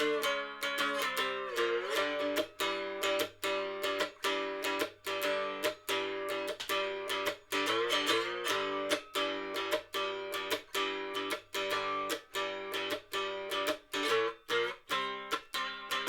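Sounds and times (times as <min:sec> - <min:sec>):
strummed guitar chords: 0:00.0 - 0:16.0.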